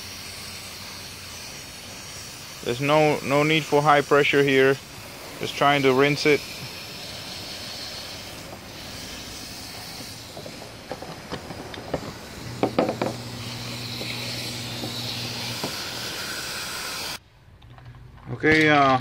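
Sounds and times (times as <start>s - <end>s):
hose water spray hissing: 0.0s - 17.2s.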